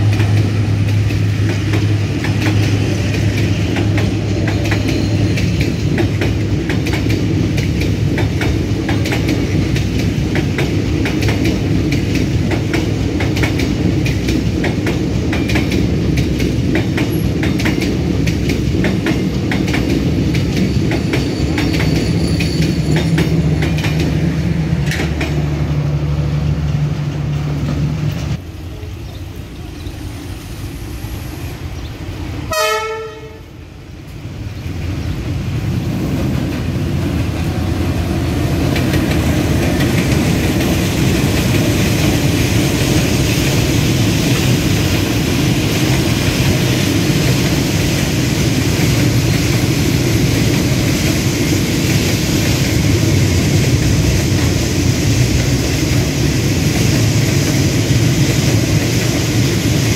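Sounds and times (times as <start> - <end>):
train wheels clacking over rail joints: 0.0 - 25.8, 36.1 - 59.9.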